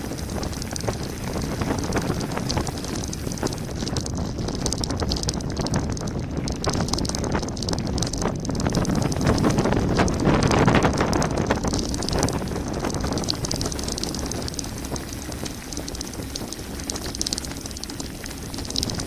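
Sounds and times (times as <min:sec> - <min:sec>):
bike rattling: 0:00.0 - 0:19.0
wind on microphone: 0:00.0 - 0:19.0.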